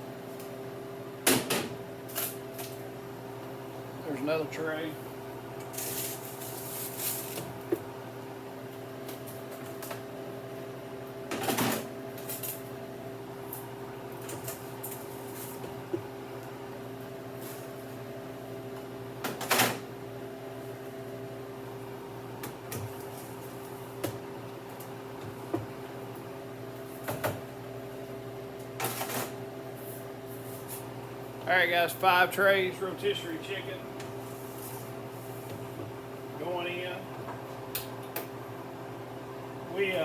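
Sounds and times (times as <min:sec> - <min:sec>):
freeze dryer humming: 0:00.0 - 0:40.0.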